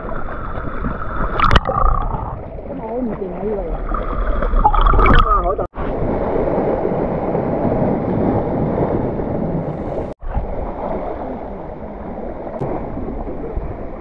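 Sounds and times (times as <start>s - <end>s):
seawater sloshing and surging: 0.0s - 14.0s.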